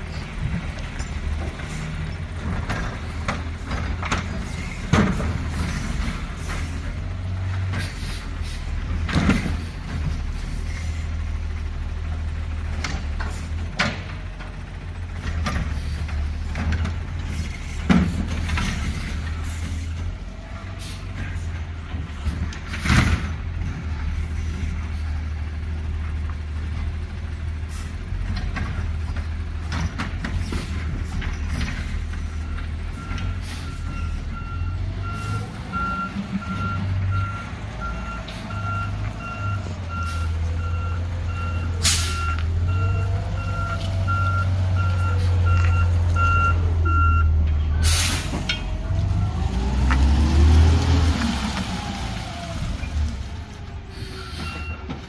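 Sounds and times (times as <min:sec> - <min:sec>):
garbage truck engine droning: 0:00.0 - 0:55.0.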